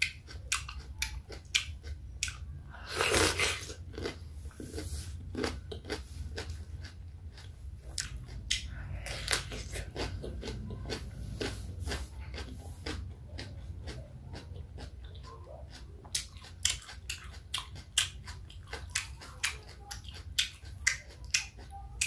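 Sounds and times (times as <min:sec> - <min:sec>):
cucumber crunching: 0:00.0 - 0:22.0
steady low hum: 0:00.0 - 0:22.0.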